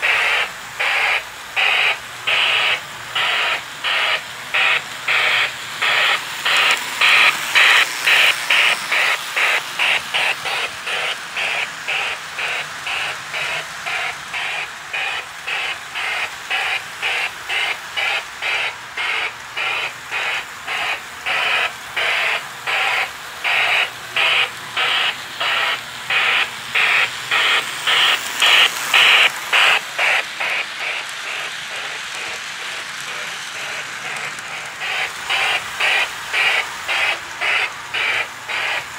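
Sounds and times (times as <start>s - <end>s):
model steam locomotive chuffing: 0.0s - 38.9s.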